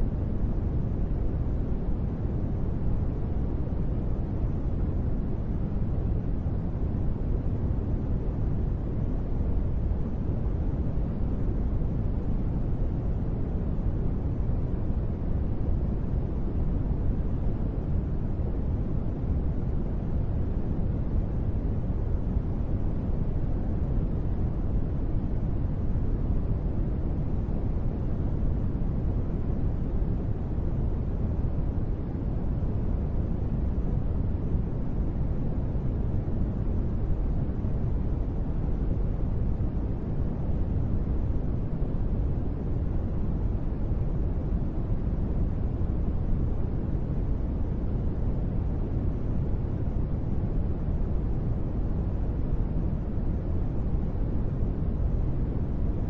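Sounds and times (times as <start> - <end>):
deep rumbling white noise: 0.0 - 56.0.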